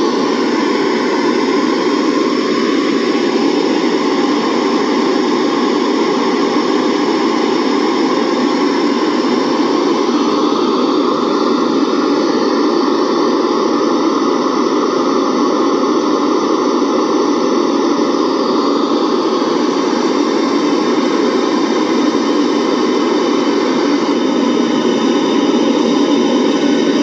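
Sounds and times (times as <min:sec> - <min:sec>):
test noise hiss through speakers: 0:00.0 - 0:27.0.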